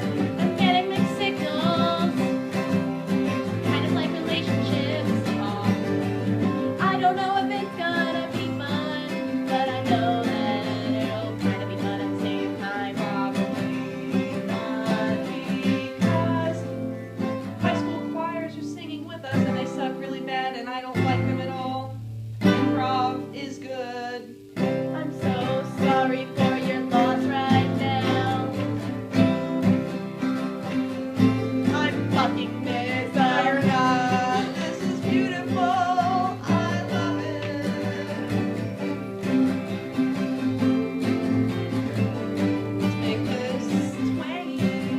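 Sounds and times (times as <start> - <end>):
acoustic guitar strumming: 0.0 - 44.9
person singing with country twang: 0.0 - 44.9.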